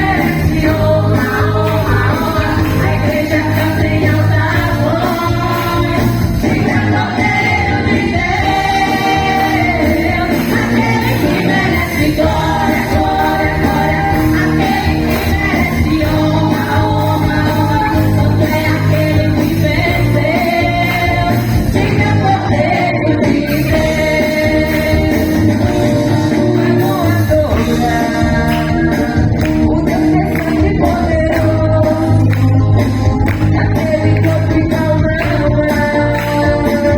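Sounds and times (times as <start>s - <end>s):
women's choir singing: 0.0s - 32.2s
band accompaniment: 0.0s - 36.9s.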